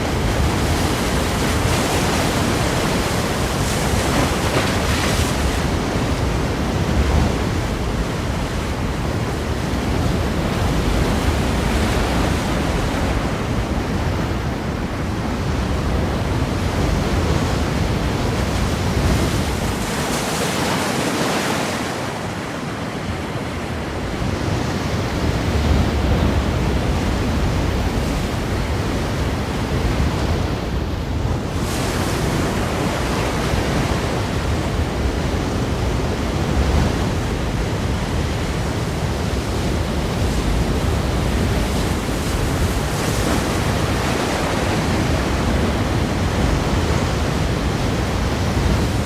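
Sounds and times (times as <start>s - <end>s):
ocean surf breaking on rocks: 0.0s - 49.0s.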